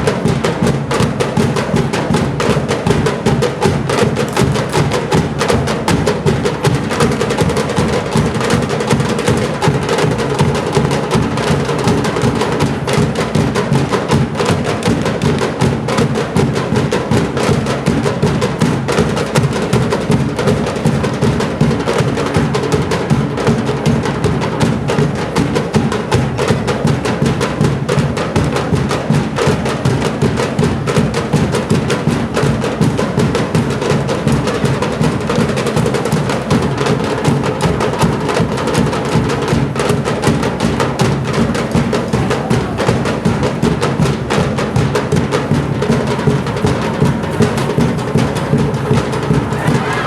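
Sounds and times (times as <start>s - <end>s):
percussion-driven drum music: 0.0s - 50.0s.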